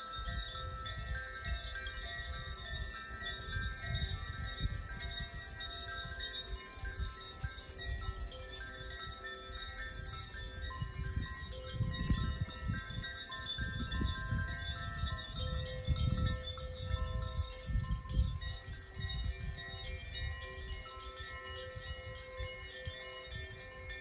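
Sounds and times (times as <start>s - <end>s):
wind chimes tinkling: 0.0s - 24.0s
wind rumbling on microphone: 0.0s - 24.0s.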